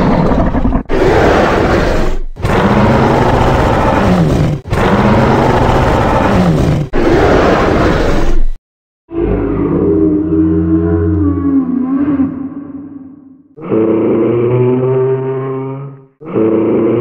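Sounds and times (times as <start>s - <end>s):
dinosaur roars: 0.0s - 8.3s, 9.1s - 17.0s.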